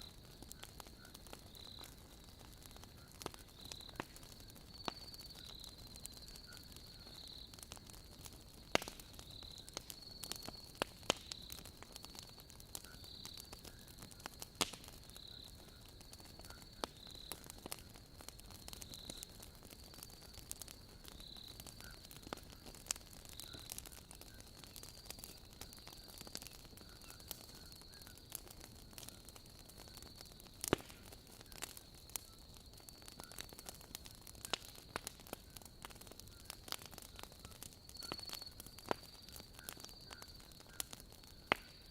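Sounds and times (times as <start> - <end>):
crickets chirping: 0.0 - 41.9
wood fire crackling and popping: 0.0 - 41.9.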